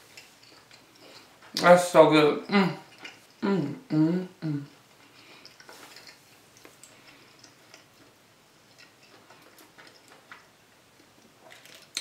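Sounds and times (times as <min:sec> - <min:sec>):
person chewing food: 0:00.0 - 0:01.6, 0:02.8 - 0:03.4, 0:04.6 - 0:12.0.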